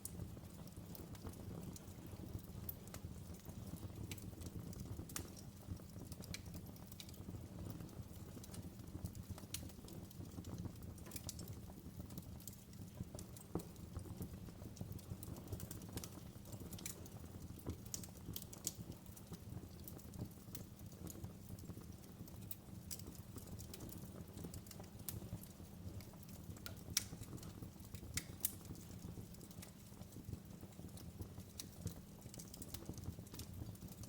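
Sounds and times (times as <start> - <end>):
low rumble of fire: 0.0 - 34.0
wood fire crackling and popping: 0.0 - 34.0.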